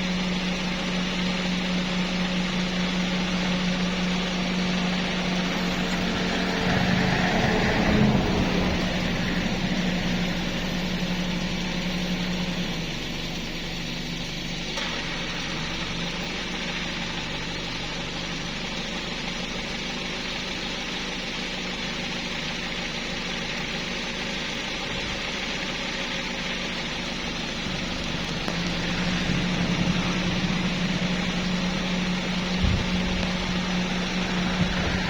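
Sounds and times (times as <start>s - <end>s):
engine running with hiss: 0.0s - 35.0s.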